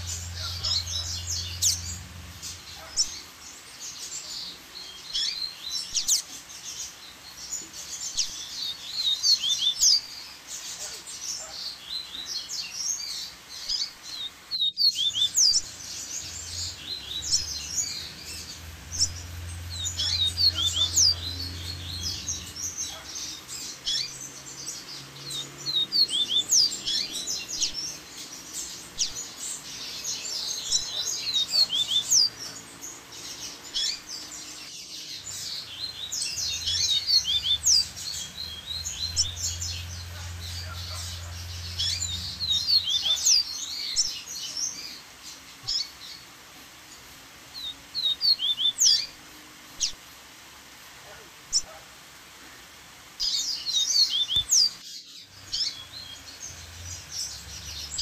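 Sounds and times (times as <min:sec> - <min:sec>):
birds chattering and singing: 0:00.0 - 0:58.0.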